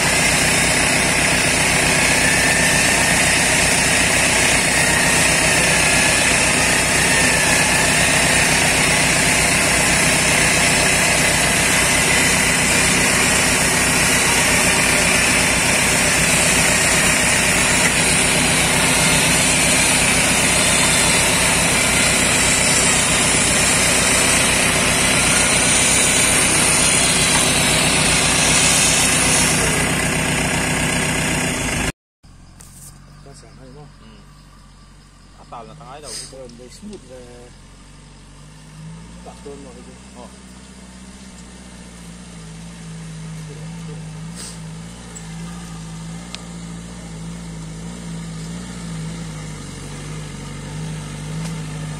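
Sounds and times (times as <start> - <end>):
winch whining: 0.0 - 31.9, 32.8 - 51.9
engine idling: 0.0 - 51.9.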